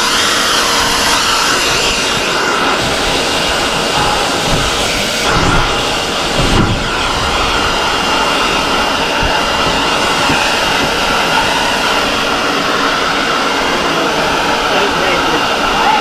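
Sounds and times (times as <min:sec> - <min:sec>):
motor whirring with high whine: 0:00.0 - 0:16.0.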